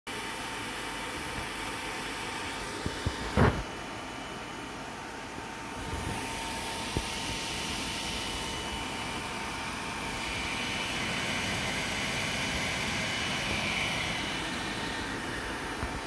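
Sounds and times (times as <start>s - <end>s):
small electric fan whirring: 0.1s - 16.0s.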